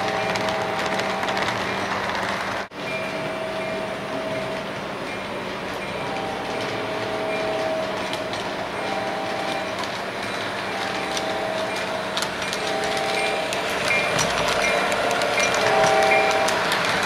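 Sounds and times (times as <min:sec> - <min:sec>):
model train rolling rumble: 0:00.0 - 0:17.0.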